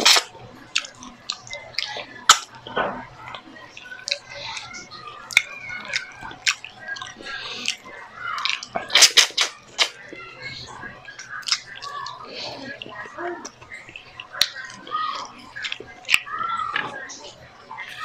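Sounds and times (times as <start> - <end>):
person chewing with lip smacks: 0.0 - 2.6, 3.2 - 18.0.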